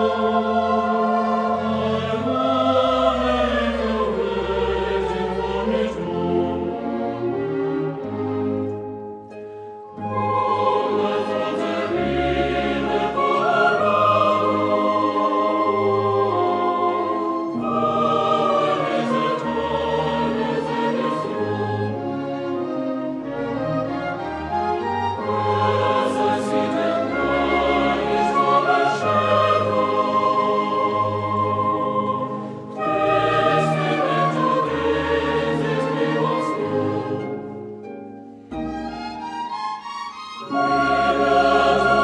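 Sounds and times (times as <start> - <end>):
choir-like singing: 0.0 - 8.8, 10.0 - 37.8, 39.0 - 42.0.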